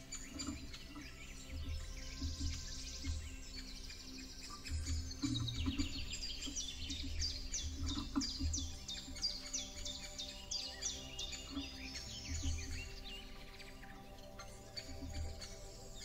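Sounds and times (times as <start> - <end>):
songbirds chirping and singing: 0.0 - 16.0.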